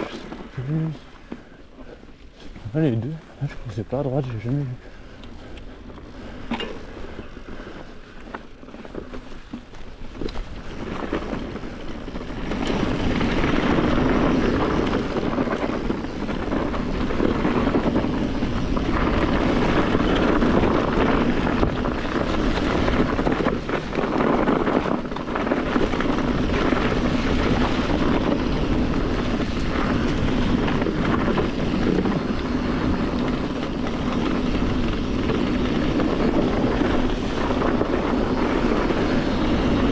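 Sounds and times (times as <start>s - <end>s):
bike tyres rolling on dirt: 0.0s - 39.9s
wind rushing over microphone: 0.0s - 39.9s.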